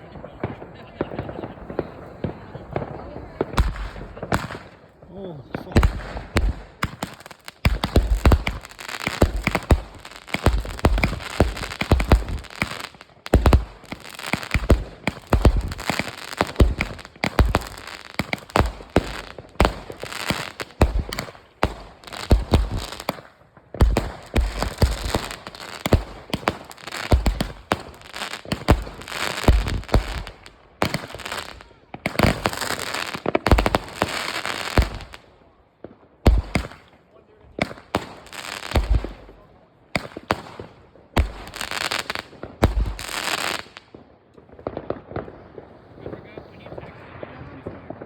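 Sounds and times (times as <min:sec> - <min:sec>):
fireworks bangs and booms: 0:00.0 - 0:48.0
fireworks crackling: 0:00.0 - 0:48.0.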